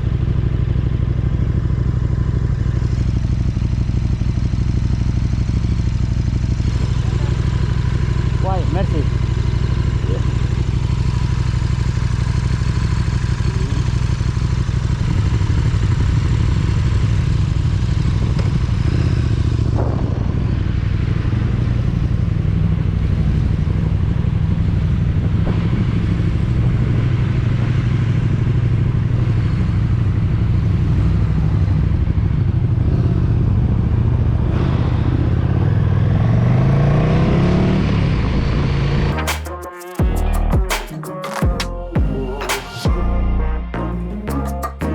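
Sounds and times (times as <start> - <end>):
motorcycle engine revving: 0.0 - 39.3.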